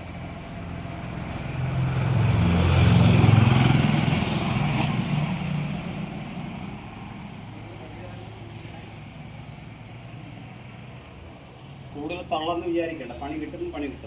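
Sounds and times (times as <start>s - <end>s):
motor vehicle passing by: 0.0s - 12.0s.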